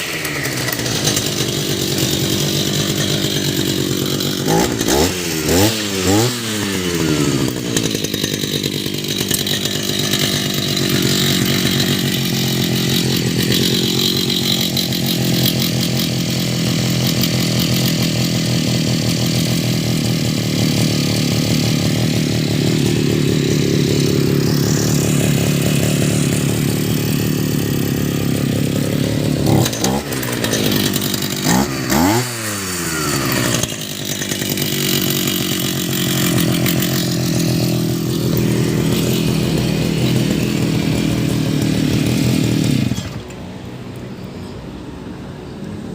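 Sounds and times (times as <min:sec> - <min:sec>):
brush cutter engine revving: 0:00.0 - 0:44.1.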